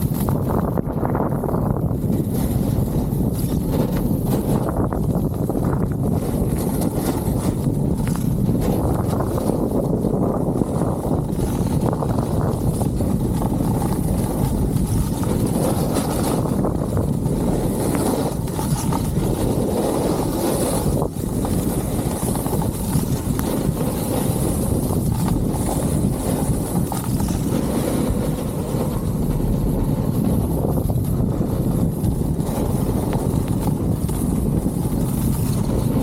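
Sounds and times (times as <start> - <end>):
wind rumble buffeting microphone: 0.0 - 36.0.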